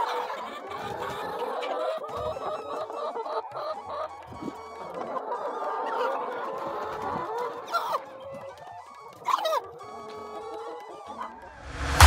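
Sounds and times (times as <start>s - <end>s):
hens clucking: 0.0s - 11.4s.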